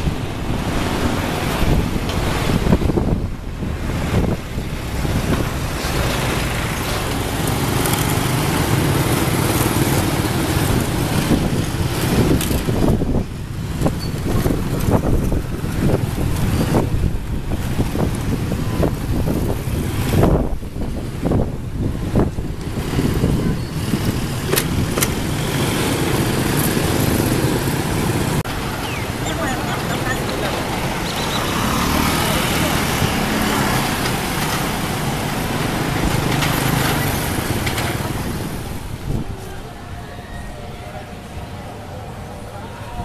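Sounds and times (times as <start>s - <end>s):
vehicle rumble: 0.0s - 43.0s.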